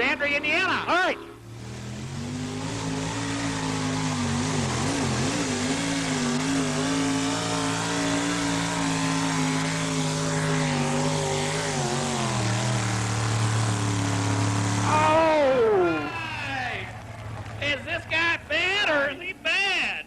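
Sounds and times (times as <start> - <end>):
truck engine running under load: 1.4 - 18.6.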